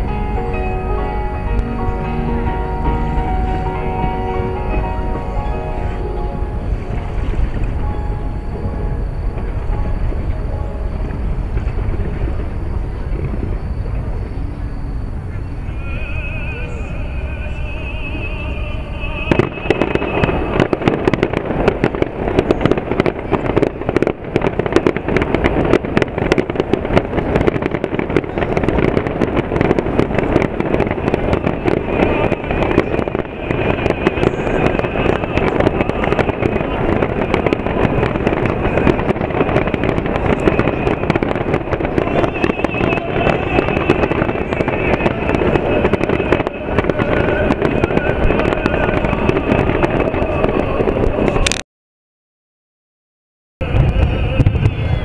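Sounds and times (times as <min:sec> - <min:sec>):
fireworks bangs and crackles: 0:00.0 - 0:51.6, 0:53.6 - 0:55.0.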